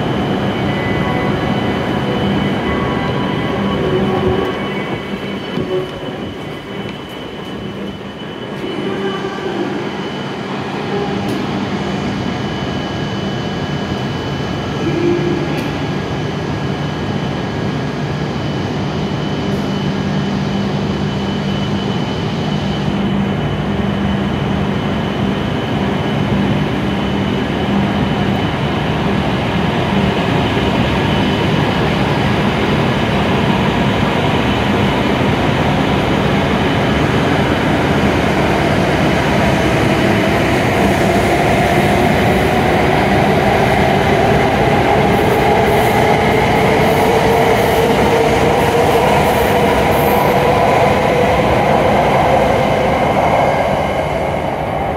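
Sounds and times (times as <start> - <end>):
high-speed train rumble: 0.0 - 54.9
train whine rising in pitch: 0.0 - 54.9.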